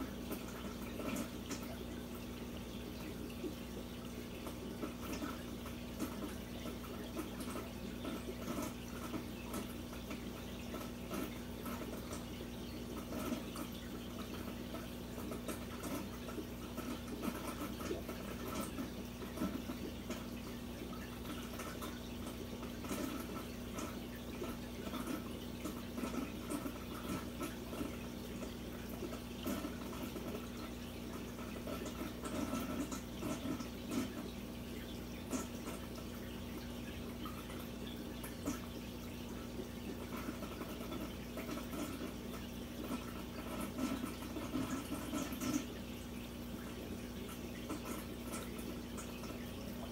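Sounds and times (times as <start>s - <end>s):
water trickling and dripping: 0.0s - 49.9s.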